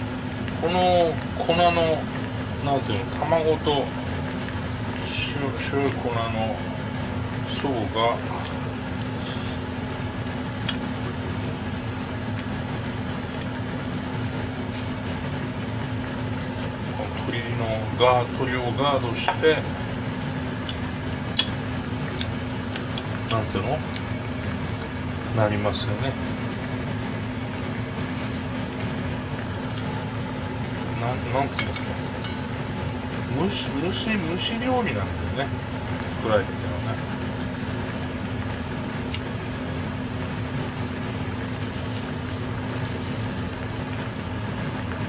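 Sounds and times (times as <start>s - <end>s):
low hum: 0.0s - 45.0s
oil sizzling: 0.0s - 45.0s.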